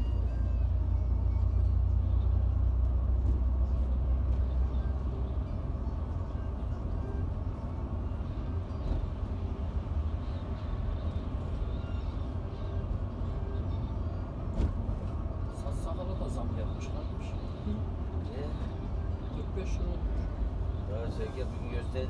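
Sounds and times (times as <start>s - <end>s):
coach engine and road rumble: 0.0s - 22.0s.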